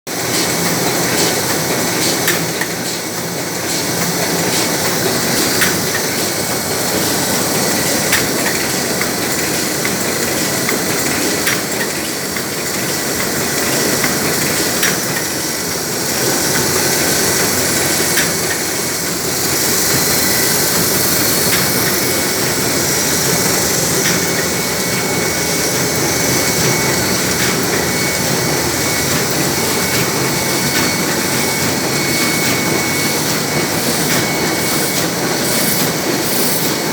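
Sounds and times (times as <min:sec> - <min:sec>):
printing press running: 0:00.1 - 0:36.9.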